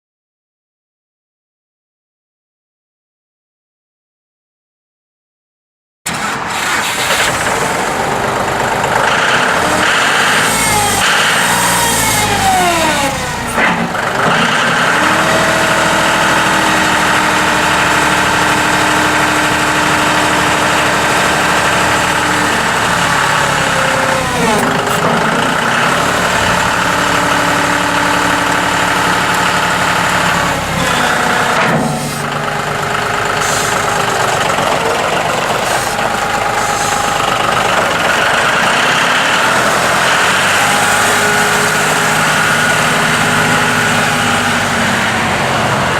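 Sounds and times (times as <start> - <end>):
tractor diesel engine running: 6.1 - 45.9.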